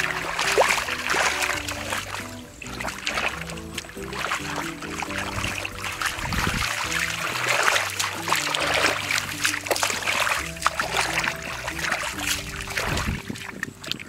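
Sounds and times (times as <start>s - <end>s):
background music with bass line: 0.0s - 14.0s.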